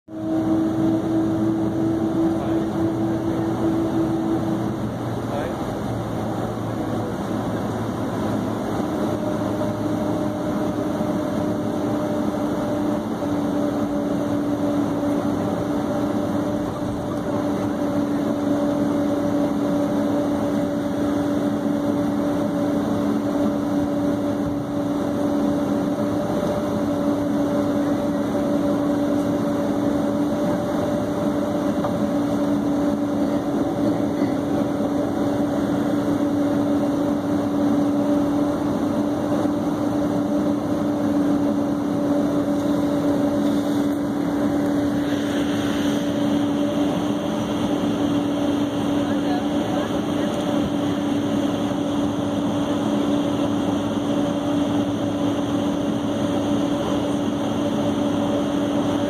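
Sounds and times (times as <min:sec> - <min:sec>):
air-conditioning roar: 0:00.1 - 0:59.0
jet engines idling: 0:00.1 - 0:59.0
steady low hum: 0:00.1 - 0:59.0.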